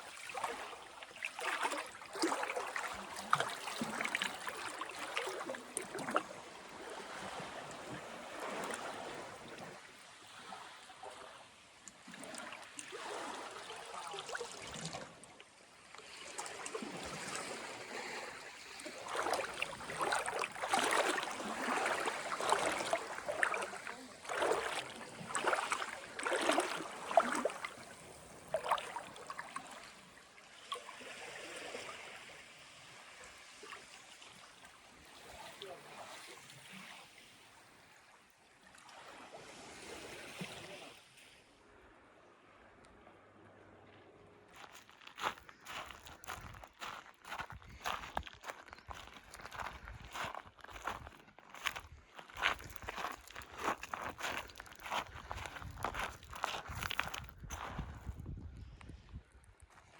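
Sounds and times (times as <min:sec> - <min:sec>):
small waves lapping on shore: 0:00.0 - 0:42.7, 0:43.5 - 0:58.1.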